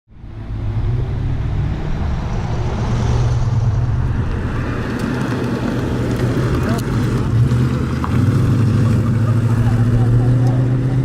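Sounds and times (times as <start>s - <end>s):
wind and road noise: 0.1s - 11.0s
car engine running: 0.5s - 11.0s.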